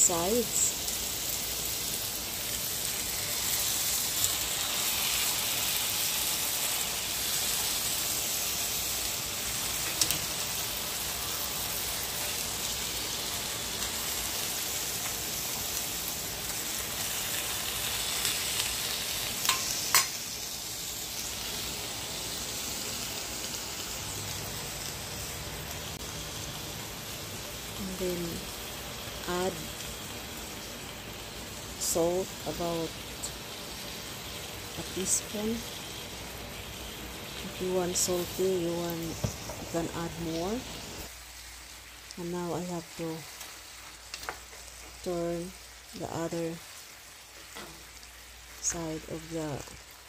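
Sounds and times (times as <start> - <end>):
meat sizzling in a skillet: 0.0 - 50.0.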